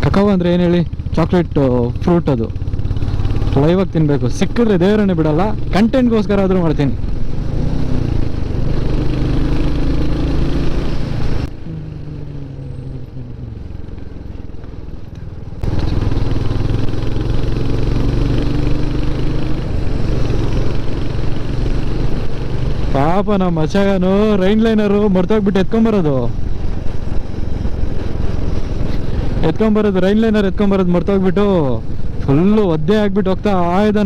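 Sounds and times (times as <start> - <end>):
motorcycle engine running: 0.0 - 34.0
wind and road noise: 0.0 - 34.0.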